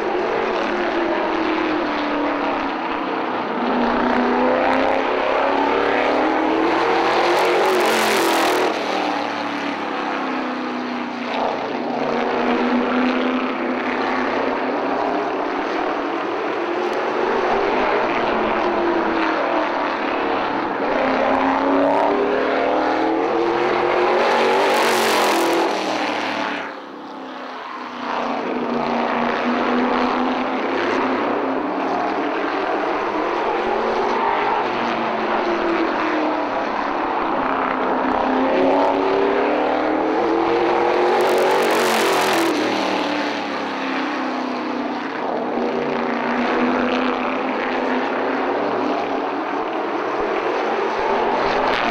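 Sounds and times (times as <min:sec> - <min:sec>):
race car engine: 0:00.0 - 0:51.9.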